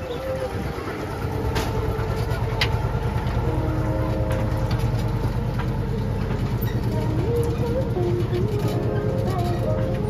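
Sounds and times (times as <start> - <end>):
miniature train rumbling: 0.0 - 10.0.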